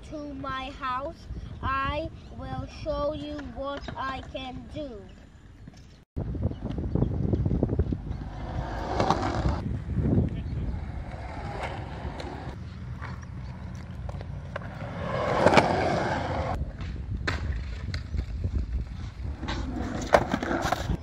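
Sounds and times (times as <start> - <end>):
skateboard wheels rolling on concrete: 3.1 - 21.0.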